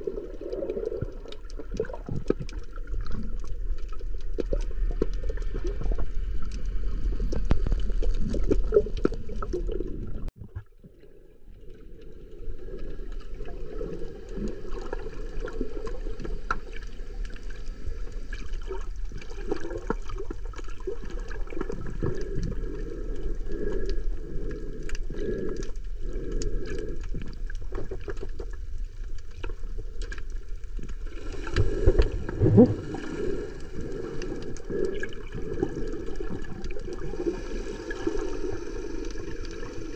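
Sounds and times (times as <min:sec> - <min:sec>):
faint clicks and crackles: 0:00.0 - 0:39.9
underwater moving water: 0:00.0 - 0:39.9.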